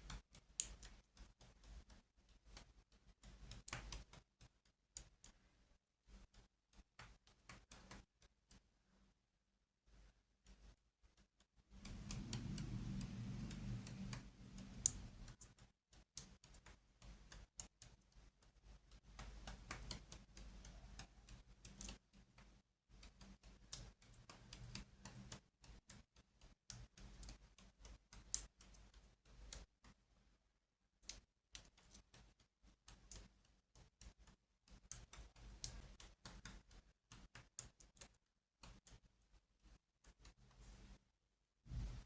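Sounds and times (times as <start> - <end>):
light clicks and taps: 0.0 - 5.4, 6.1 - 8.6, 10.5 - 30.0, 31.0 - 41.0.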